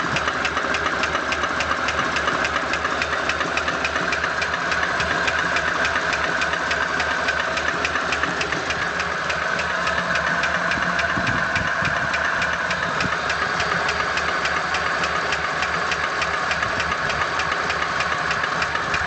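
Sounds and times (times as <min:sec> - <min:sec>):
petrol engine running: 0:00.0 - 0:19.0
rapid engine knock: 0:00.0 - 0:19.0.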